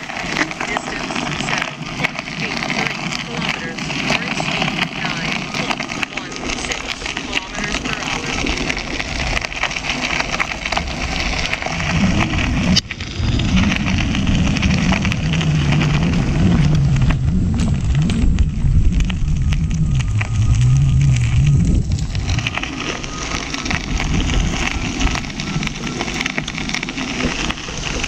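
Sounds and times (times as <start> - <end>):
low wavering hum: 0.0 - 28.0
tyre rolling over gravel: 0.0 - 28.0.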